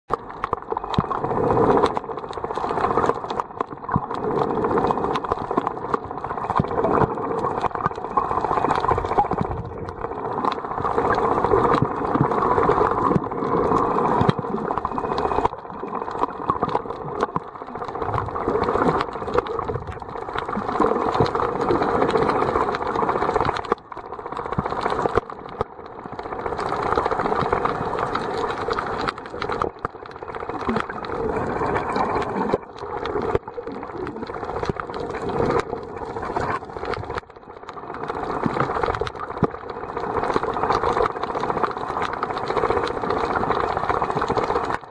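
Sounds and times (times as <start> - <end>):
muffled underwater crackling rattle: 0.1 - 44.9.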